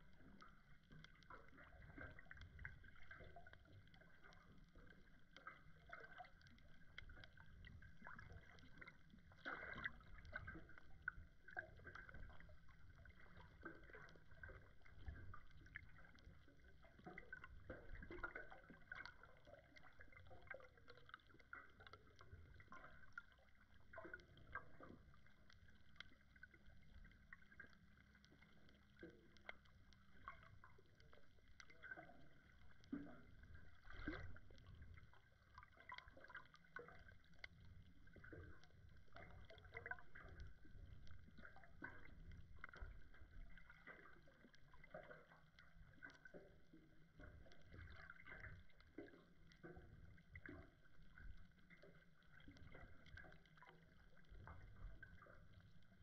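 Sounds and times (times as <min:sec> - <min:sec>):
muffled underwater rumble: 0:00.0 - 0:56.0
soft clicks and crackles: 0:00.0 - 0:56.0.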